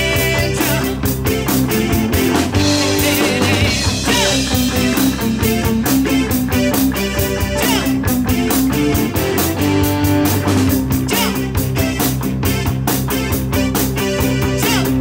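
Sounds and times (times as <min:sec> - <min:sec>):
drum kit beat: 0:00.0 - 0:15.0
electric guitar: 0:00.0 - 0:15.0
keyboard playing: 0:00.0 - 0:15.0.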